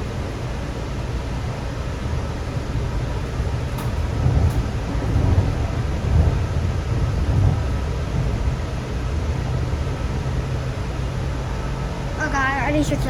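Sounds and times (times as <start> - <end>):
light rail wheels rumbling on track: 0.0 - 13.0.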